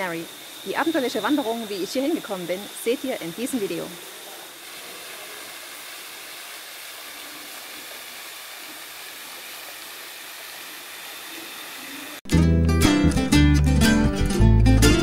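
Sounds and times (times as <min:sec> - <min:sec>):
waterfall rushing hiss: 0:00.0 - 0:12.2.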